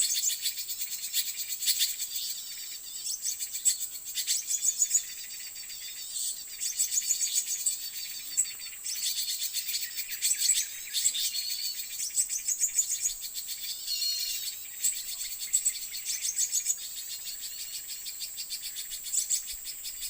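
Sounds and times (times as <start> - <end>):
birds chirping rapidly: 0.0 - 20.0
high insect drone: 0.0 - 20.0.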